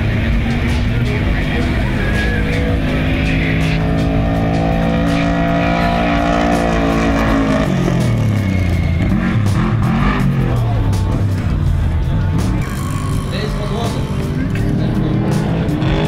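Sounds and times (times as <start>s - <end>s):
background music: 0.0s - 16.0s
truck engine running hard: 0.0s - 16.0s.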